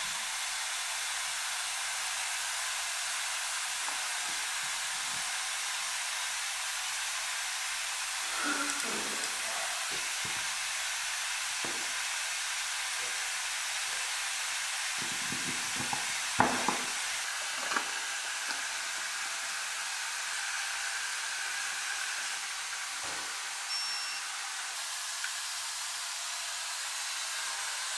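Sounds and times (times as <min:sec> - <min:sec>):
steady hiss: 0:00.0 - 0:27.9.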